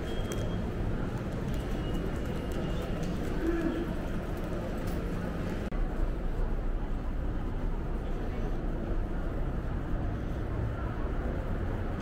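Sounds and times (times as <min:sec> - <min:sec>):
city background noise: 0:00.0 - 0:12.0.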